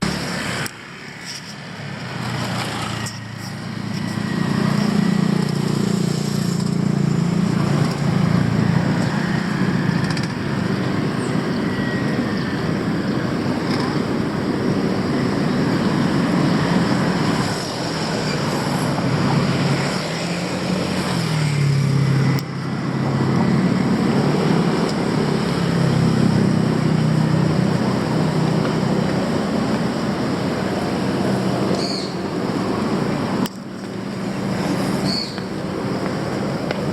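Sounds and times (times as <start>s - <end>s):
passing vehicle engines: 0.0s - 36.9s
road traffic noise: 0.0s - 36.9s.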